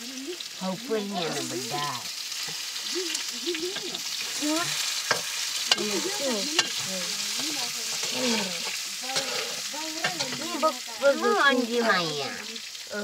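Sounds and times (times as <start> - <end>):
potatoes sizzling in a wok: 0.0 - 13.0.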